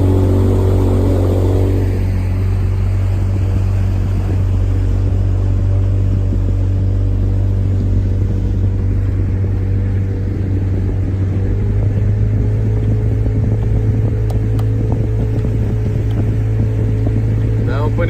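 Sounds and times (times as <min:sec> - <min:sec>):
speedboat engine droning: 0:00.0 - 0:18.0.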